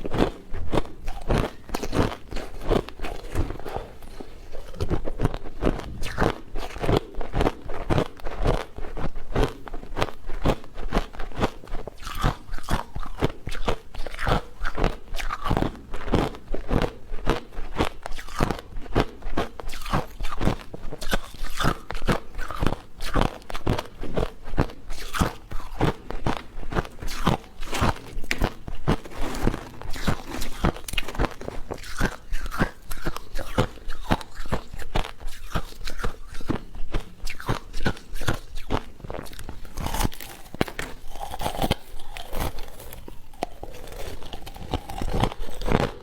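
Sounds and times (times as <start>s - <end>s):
crunchy chewing: 0.0s - 46.0s.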